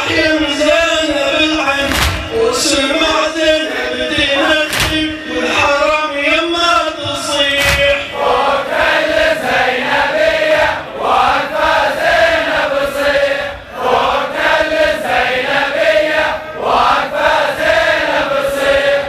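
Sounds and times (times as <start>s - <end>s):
chorus chanting a lament: 0.0s - 19.0s.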